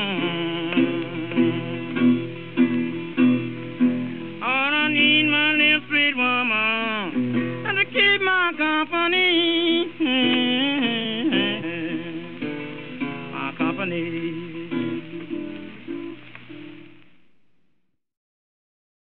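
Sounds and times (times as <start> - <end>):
blues guitar: 0.0 - 17.4.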